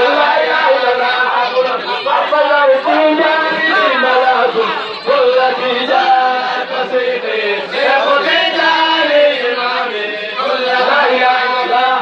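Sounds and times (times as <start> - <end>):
men chanting together: 0.0 - 12.0.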